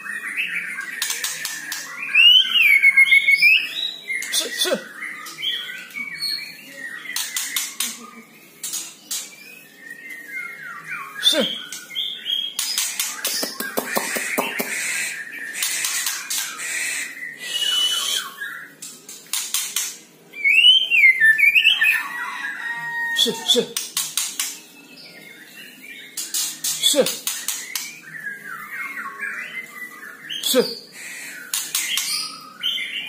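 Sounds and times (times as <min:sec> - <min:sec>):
bird singing whistles and chatter: 0:00.0 - 0:33.0.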